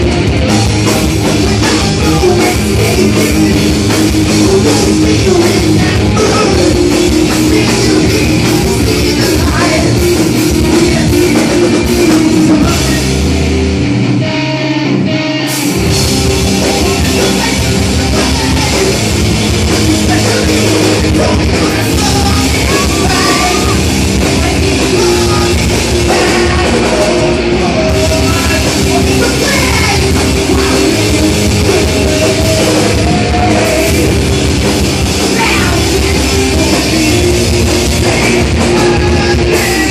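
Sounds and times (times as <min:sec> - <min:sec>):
heavy metal band playing: 0:00.0 - 0:39.9
person singing into a microphone: 0:00.5 - 0:13.2, 0:16.3 - 0:39.9.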